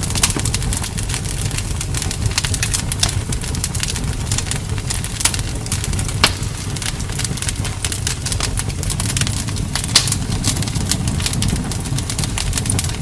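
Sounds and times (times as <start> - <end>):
campfire flames rumbling: 0.0 - 13.0
wood crackling and popping: 0.0 - 13.0.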